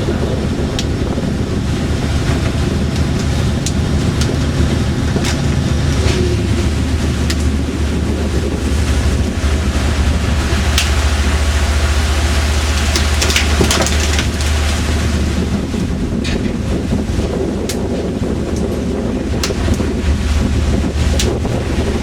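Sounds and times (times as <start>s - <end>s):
boat engine humming: 0.0s - 22.0s
sea rushing: 0.0s - 22.0s
wind buffeting microphone: 0.0s - 22.0s.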